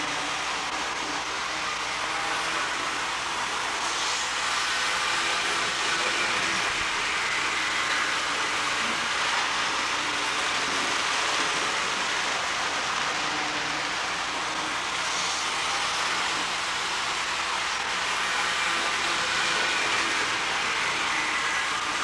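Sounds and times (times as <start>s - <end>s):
model train motors whirring: 0.0s - 22.0s.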